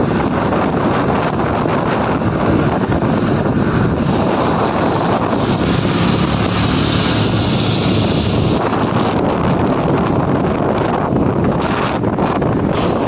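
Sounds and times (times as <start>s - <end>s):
traffic engine and road noise: 0.0s - 13.0s
wind buffeting microphone: 0.0s - 13.0s.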